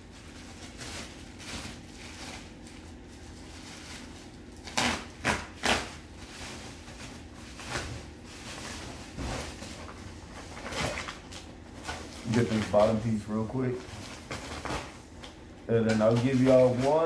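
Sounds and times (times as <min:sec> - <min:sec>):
bubble wrap crackles: 0:00.0 - 0:17.0
bubble wrap crinkling: 0:00.0 - 0:17.0.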